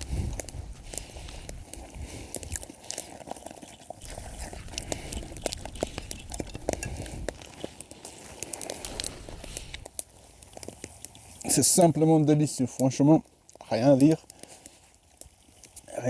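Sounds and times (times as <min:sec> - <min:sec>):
person chewing and crunching food: 0:00.0 - 0:11.8, 0:13.2 - 0:16.0.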